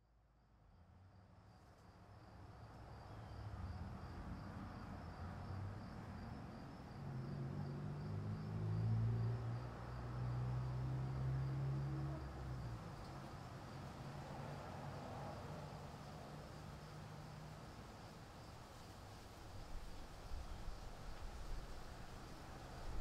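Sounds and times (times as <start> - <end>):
crickets chirping: 0.4 - 23.0.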